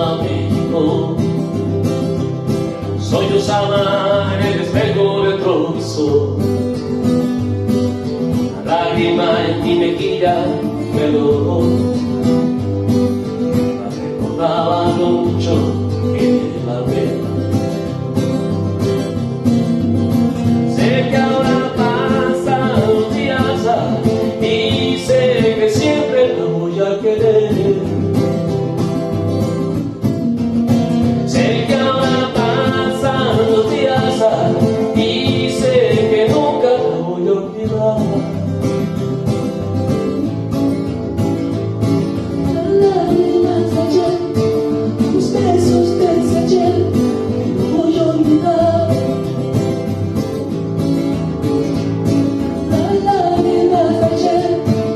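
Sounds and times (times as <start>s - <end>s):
acoustic guitar country music: 0.0s - 54.9s.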